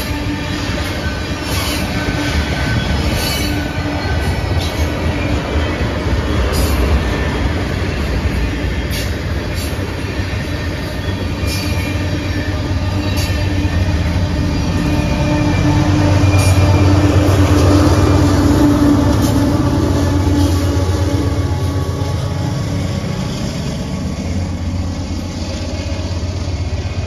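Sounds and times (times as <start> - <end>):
diesel locomotive drone: 0.0 - 27.0.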